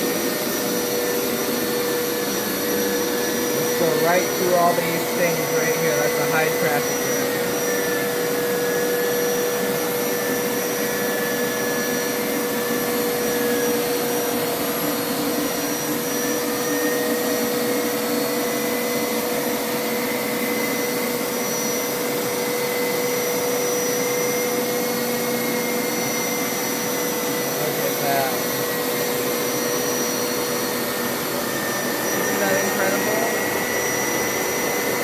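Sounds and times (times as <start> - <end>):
carpet washer running: 0.0 - 35.0.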